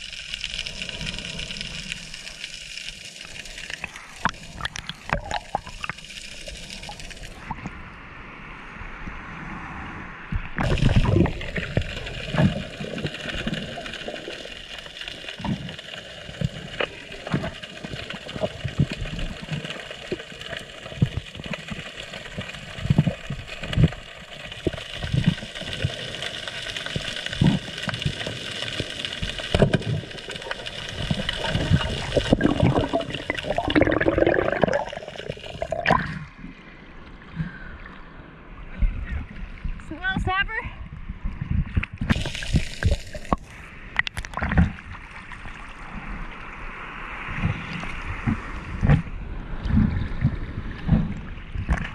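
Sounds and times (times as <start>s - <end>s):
underwater rush of water: 0.0s - 51.9s.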